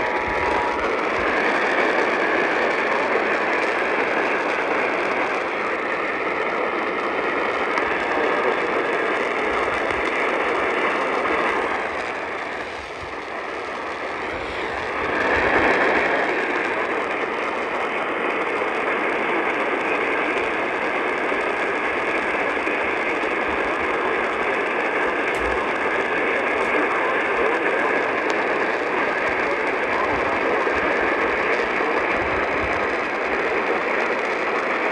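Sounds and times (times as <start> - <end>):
faint steady whistle: 0.0 - 34.9
radio static and hiss: 0.0 - 34.9.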